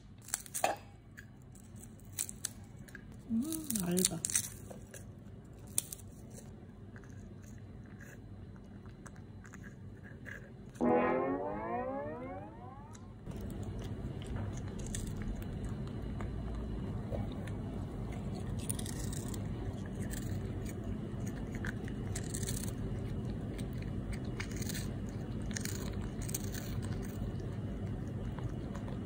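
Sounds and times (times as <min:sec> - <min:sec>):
cat crunching and chewing: 0:00.0 - 0:10.8, 0:13.3 - 0:29.0.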